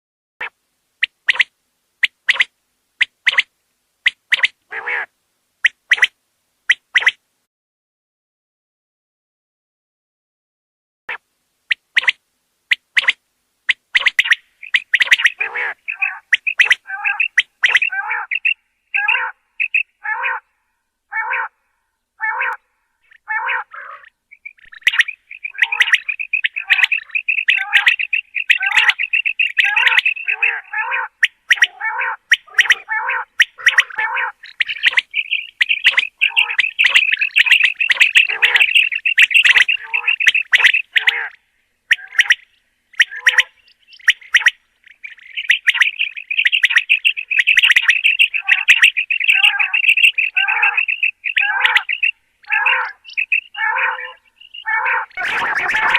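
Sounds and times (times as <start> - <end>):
quail calling: 1.0 - 6.1, 11.7 - 20.5, 21.1 - 21.6, 22.2 - 55.9.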